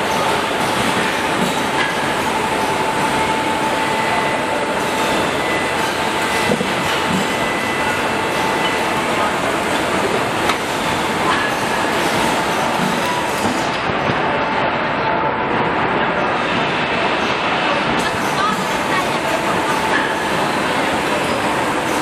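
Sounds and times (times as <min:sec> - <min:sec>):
press machine mechanical din: 0:00.0 - 0:14.3, 0:16.5 - 0:22.0.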